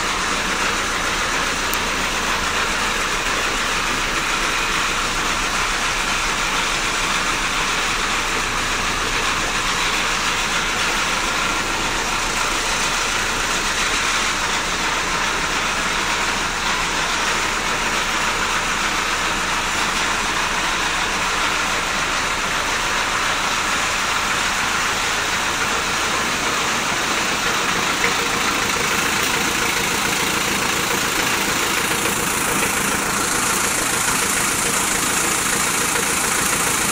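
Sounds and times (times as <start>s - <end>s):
engine idling: 0.0s - 36.9s.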